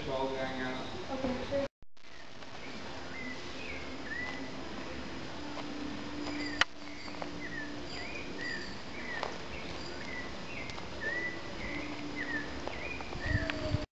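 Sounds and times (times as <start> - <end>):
bird chirping: 0.5 - 4.6, 6.1 - 13.8.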